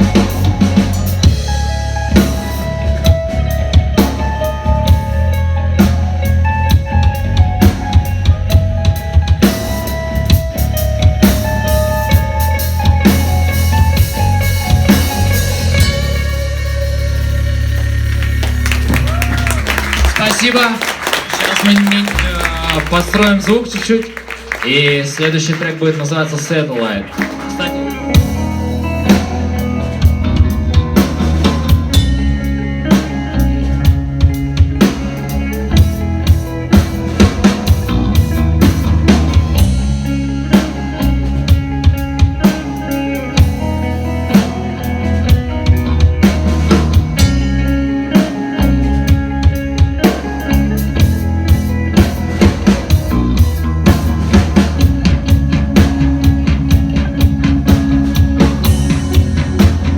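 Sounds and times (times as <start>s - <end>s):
drum kit: 0.0s - 59.9s
live rock band playing: 0.0s - 59.9s.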